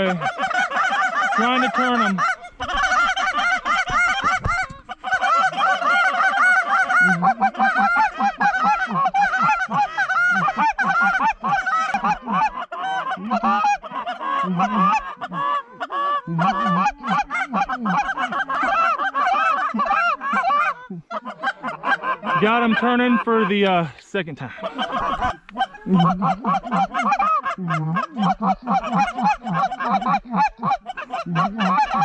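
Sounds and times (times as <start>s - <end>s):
goose call honks and clucks: 0.0s - 32.0s.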